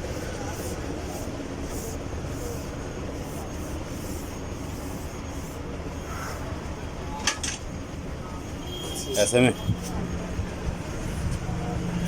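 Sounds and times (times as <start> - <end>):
low rumble of machinery or traffic: 0.0 - 12.0.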